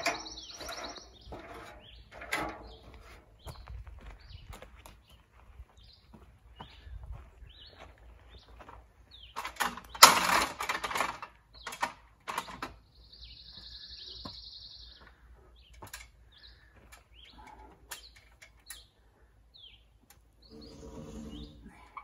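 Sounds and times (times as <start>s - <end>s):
small birds chirping: 0.0s - 10.1s, 11.2s - 22.0s.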